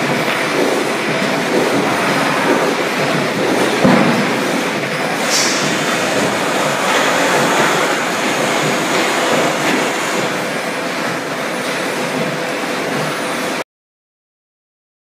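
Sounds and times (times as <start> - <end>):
factory machinery running: 0.0 - 13.6.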